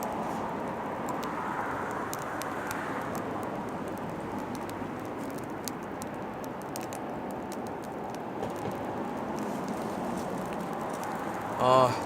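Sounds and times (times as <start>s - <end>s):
firewood crackling and popping: 0.0s - 12.0s.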